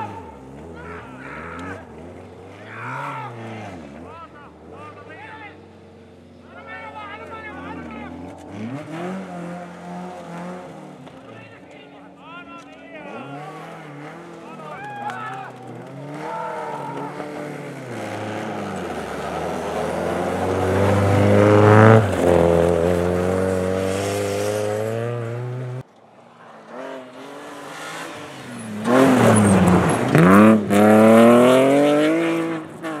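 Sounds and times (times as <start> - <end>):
rally car engine revving: 0.0 - 6.1, 7.2 - 11.8, 12.5 - 33.0
rally car passing at speed: 0.0 - 6.1, 6.8 - 11.7, 12.5 - 33.0.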